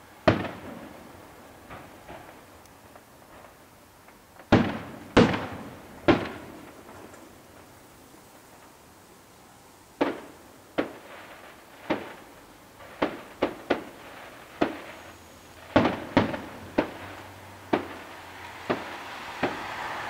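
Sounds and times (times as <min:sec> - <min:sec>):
firework shells bursting: 0:00.0 - 0:07.8, 0:10.0 - 0:20.0.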